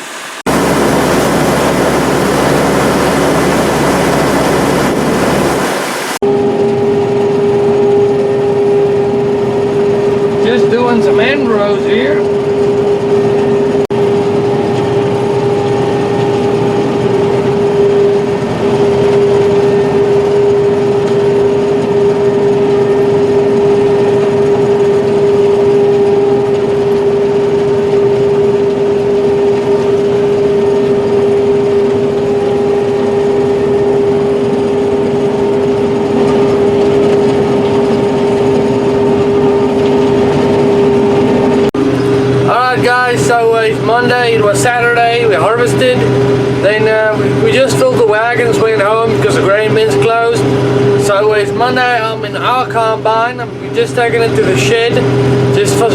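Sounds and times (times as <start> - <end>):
combine harvester drone: 0.0 - 55.9.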